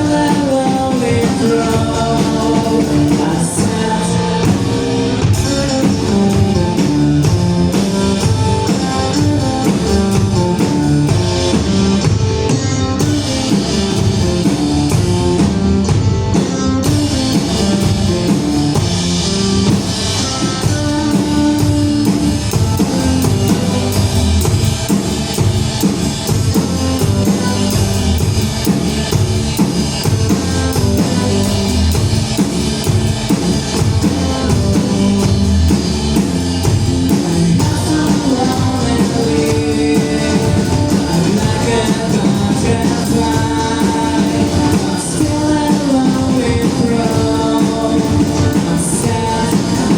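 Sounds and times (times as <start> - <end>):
drum kit steady beat: 0.0 - 49.9
electric guitars and bass: 0.0 - 49.9.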